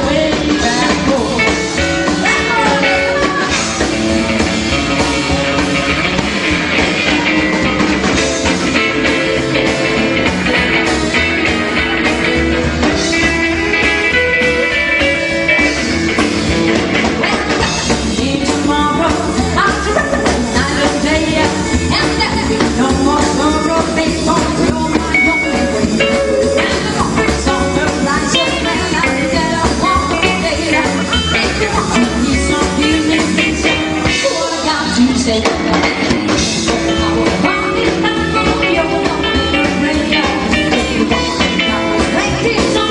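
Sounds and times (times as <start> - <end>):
rockabilly band playing live: 0.0 - 42.9.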